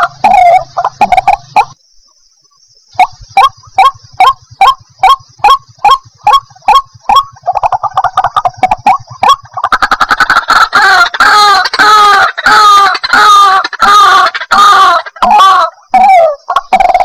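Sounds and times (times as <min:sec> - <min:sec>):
waterhen calling: 0:00.0 - 0:01.8, 0:02.4 - 0:17.0.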